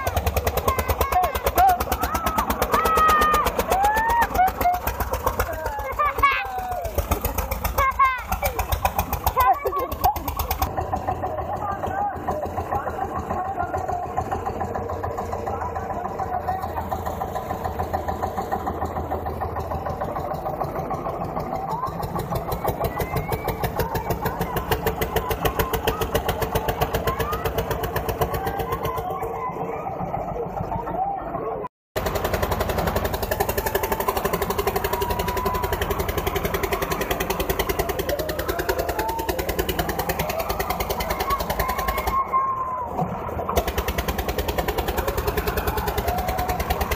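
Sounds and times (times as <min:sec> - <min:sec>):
diesel tractor engine idling: 0:00.0 - 0:46.9.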